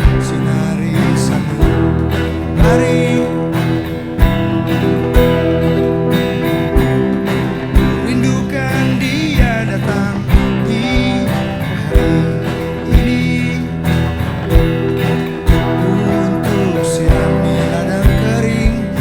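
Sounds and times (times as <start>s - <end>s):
acoustic guitar chords: 0.0s - 19.0s
low thumps: 0.0s - 19.0s
wavering melody line: 0.0s - 19.0s.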